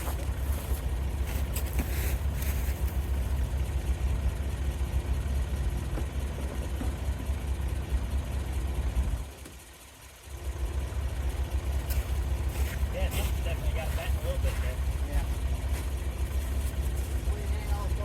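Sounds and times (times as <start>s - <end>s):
excavator diesel engine rumbling: 0.0s - 18.0s.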